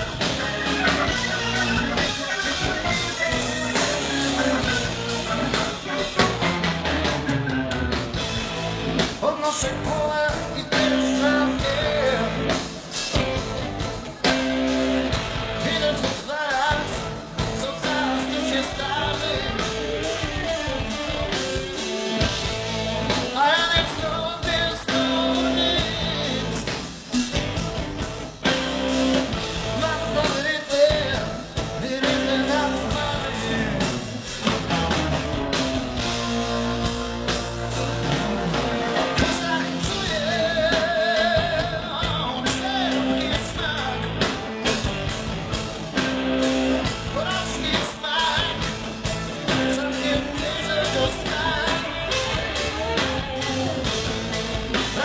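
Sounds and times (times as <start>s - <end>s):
bass: 0.0s - 55.0s
drums: 0.0s - 55.0s
electric guitars: 0.0s - 55.0s
lead singer singing: 8.9s - 27.6s, 28.4s - 55.0s.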